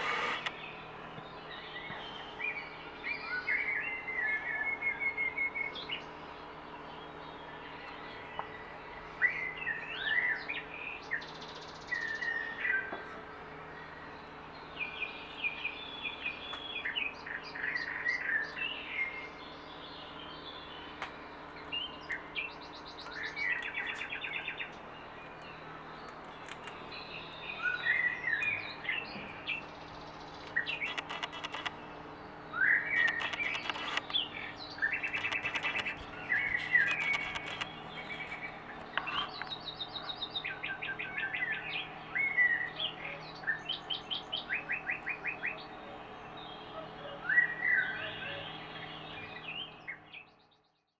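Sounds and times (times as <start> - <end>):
steady low hum: 0.0 - 50.7
songbird singing: 0.0 - 50.9.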